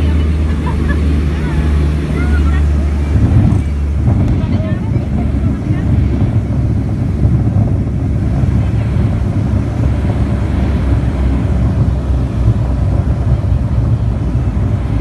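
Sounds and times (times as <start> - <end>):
turboprop engine drone: 0.0 - 15.0.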